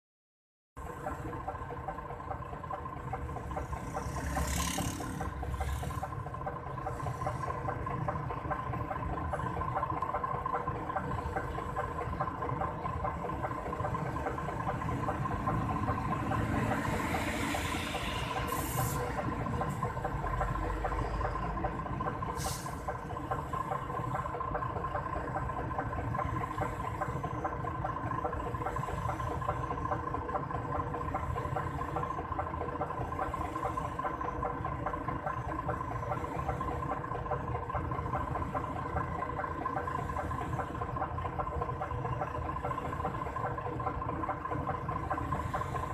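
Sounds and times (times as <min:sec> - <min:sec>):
diesel truck engine idling: 0:00.8 - 0:45.9
heavy truck passing: 0:00.8 - 0:45.9
passing traffic: 0:00.8 - 0:45.9.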